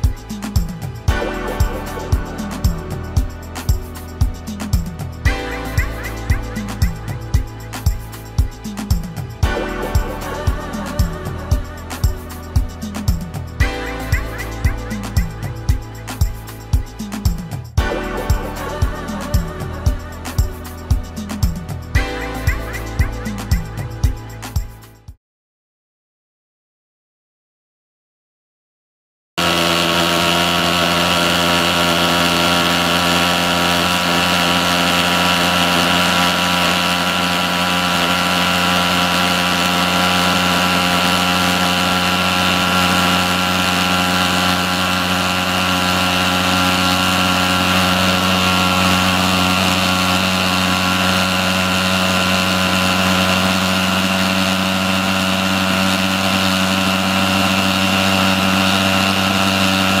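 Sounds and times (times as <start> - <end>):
pulse-jet engine droning: 0.0 - 24.7, 29.4 - 60.0.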